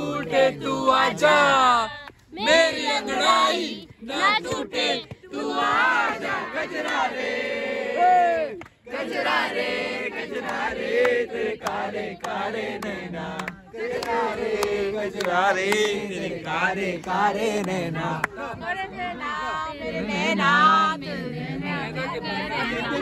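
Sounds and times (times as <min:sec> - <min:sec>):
group singing in unison: 0:00.0 - 0:23.0.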